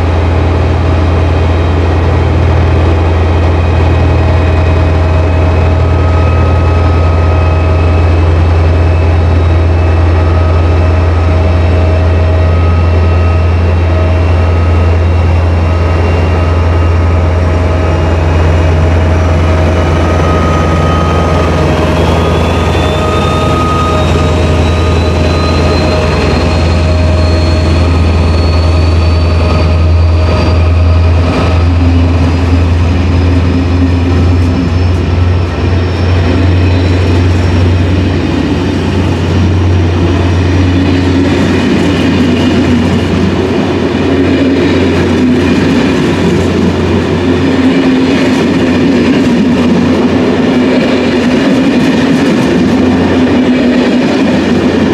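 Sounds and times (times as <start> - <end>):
diesel locomotive engine drone: 0.0 - 54.9
rising whine: 0.0 - 54.9.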